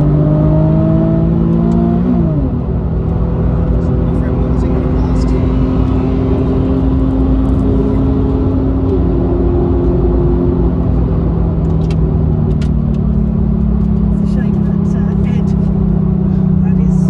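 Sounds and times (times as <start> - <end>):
car engine running: 0.0 - 17.0
road rumble: 0.0 - 17.0.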